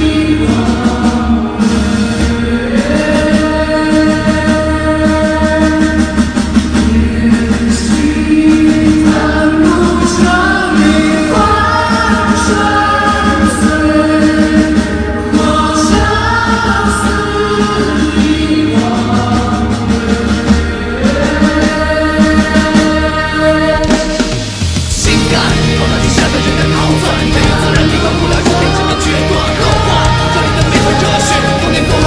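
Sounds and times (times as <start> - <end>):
live band music: 0.0 - 32.0
pulsing bass: 0.0 - 32.0
wordless choir-like singing: 0.0 - 32.0.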